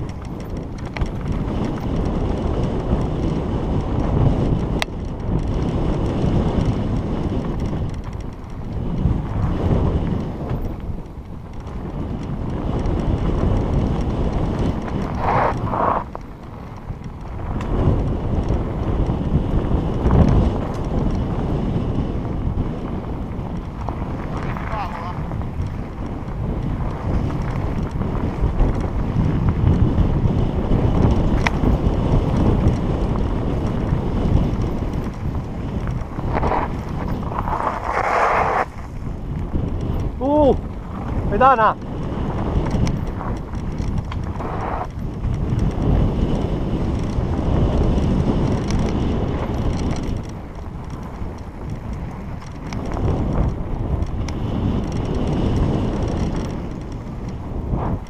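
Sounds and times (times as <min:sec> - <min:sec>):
bike rumbling on dirt trail: 0:00.0 - 0:58.0
wind buffeting microphone: 0:00.0 - 0:58.0.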